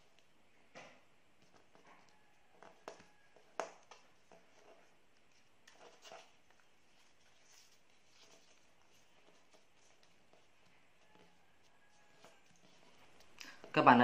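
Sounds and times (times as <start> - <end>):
paper rustling and crackling: 1.6 - 13.8.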